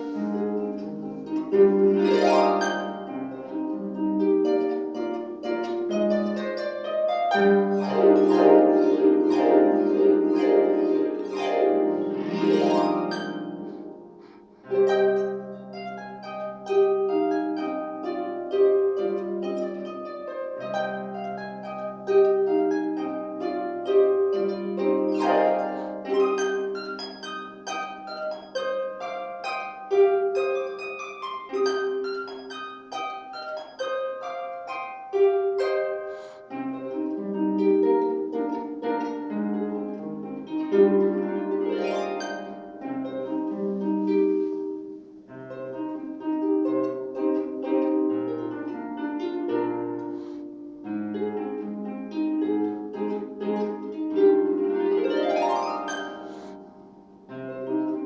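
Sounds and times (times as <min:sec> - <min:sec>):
harp playing with glissandi: 0:00.0 - 0:58.0.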